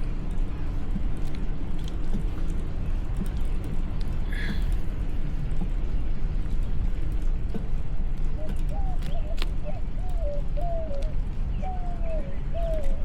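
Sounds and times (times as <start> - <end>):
bicycle road noise: 0.0 - 13.0.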